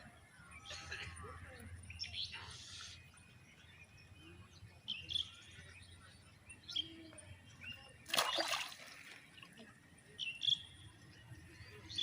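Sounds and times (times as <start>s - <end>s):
birds chirping: 0.0s - 12.0s
faint outdoor background: 0.0s - 12.0s.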